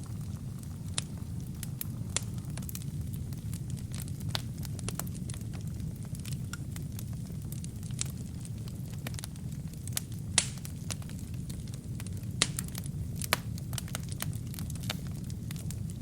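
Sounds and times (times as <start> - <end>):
burning wood crackling and popping: 0.0 - 16.0
low rumble of flame: 0.0 - 16.0.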